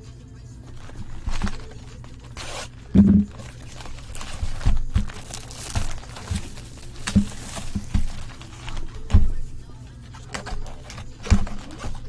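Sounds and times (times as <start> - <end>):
shrink wrap crinkling and tearing: 0.0 - 12.0.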